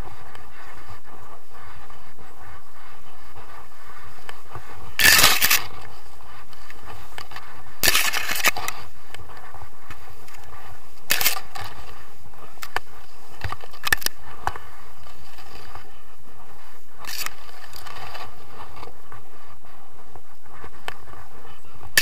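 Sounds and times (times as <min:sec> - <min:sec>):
wind noise: 0:00.0 - 0:22.0
wing fabric crackling: 0:00.0 - 0:22.0.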